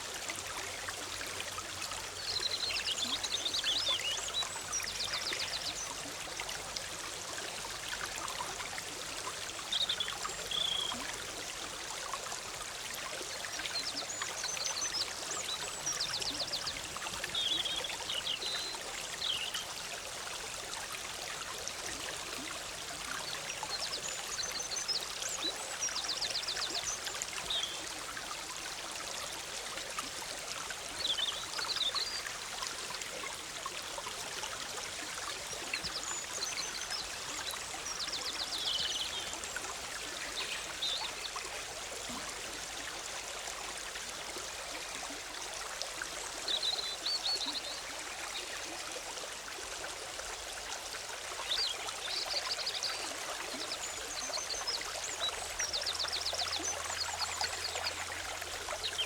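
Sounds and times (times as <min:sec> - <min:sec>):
forest stream bubbling: 0:00.0 - 0:59.0.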